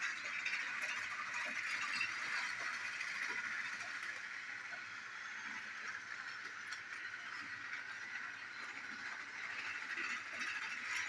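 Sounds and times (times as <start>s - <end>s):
toy train motor whirring: 0.0s - 11.0s.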